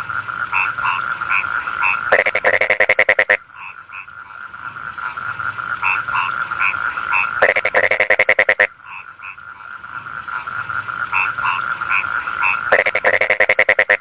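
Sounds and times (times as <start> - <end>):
frog rapid rattling croak: 0.0 - 14.0
frogs croaking in chorus: 0.0 - 14.0.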